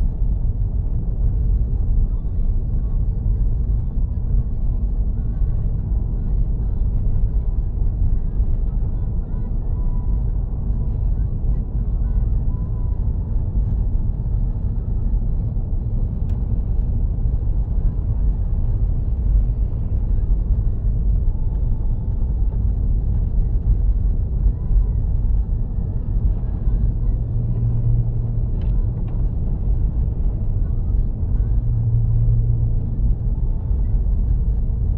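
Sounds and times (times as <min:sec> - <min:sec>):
car engine and tyres rumbling: 0:00.0 - 0:34.9
deeper hum: 0:00.0 - 0:34.9.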